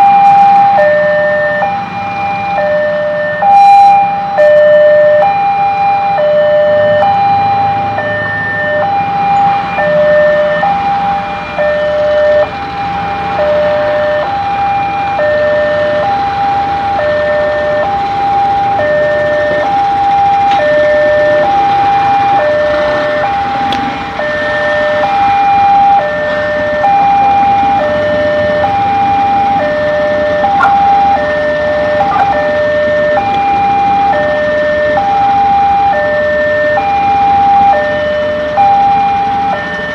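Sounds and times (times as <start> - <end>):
two-tone crossing warning alarm: 0.0 - 39.9.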